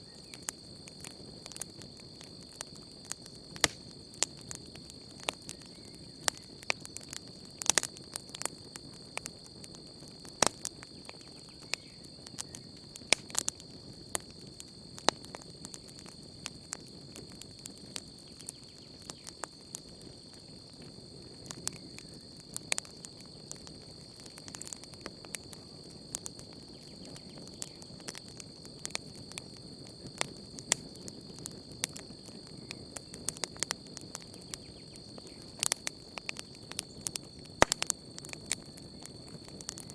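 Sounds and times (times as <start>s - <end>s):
campfire crackling and popping: 0.0s - 39.9s
high insect trill: 0.0s - 39.9s.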